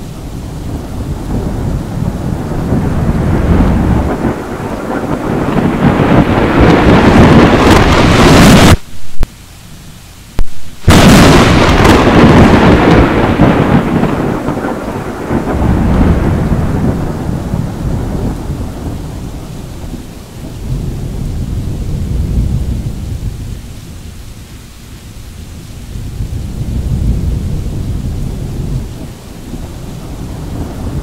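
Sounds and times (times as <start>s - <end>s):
thunder crack and rumble: 0.0s - 9.3s, 10.4s - 23.8s, 25.6s - 31.0s.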